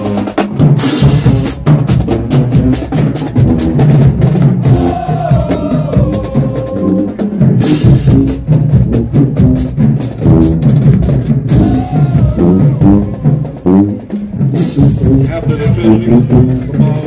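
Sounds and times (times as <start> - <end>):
marching band playing loudly: 0.0 - 17.0
pounding drumline: 0.0 - 17.0.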